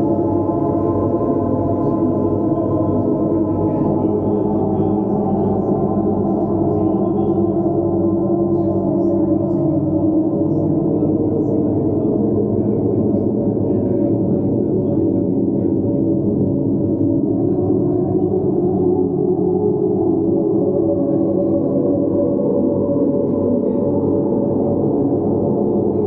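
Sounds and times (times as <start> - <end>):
ambient drone music: 0.0 - 26.0.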